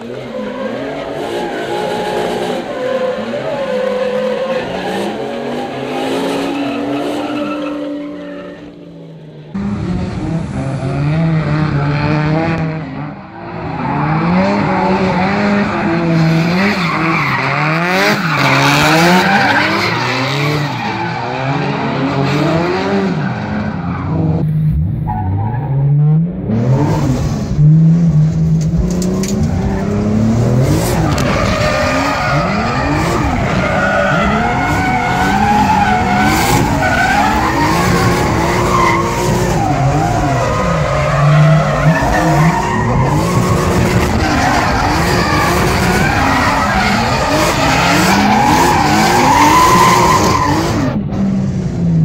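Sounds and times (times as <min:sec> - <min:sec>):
car engine revving: 0:09.5 - 0:52.0.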